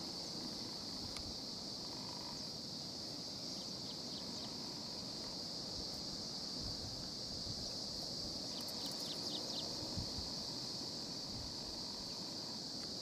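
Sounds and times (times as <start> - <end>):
insects chirping in chorus: 0.0 - 13.0.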